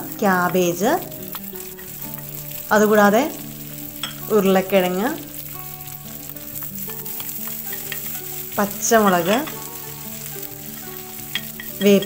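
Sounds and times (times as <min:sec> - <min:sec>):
frying hiss in oil: 0:00.0 - 0:12.0.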